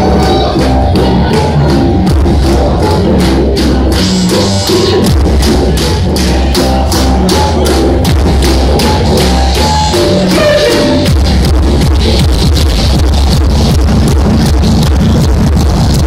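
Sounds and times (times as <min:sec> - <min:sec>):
dub band playing: 0:00.0 - 0:16.0
heavy bass line: 0:00.0 - 0:16.0
steady drum beat: 0:00.0 - 0:16.0.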